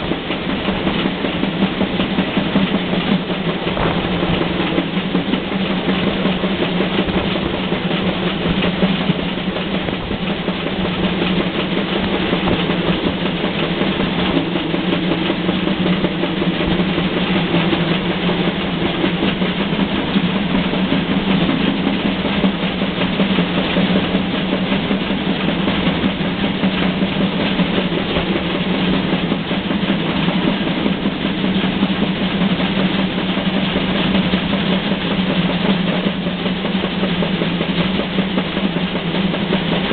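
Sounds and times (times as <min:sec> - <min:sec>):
steady low hum: 0:00.0 - 0:39.9
steam train rumbling and clattering: 0:00.0 - 0:39.9.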